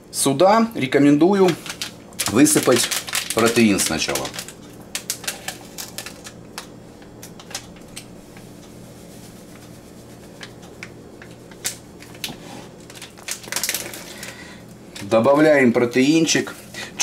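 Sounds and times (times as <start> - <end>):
steady low hum: 0.0 - 17.0
sachet crinkling: 1.3 - 15.2.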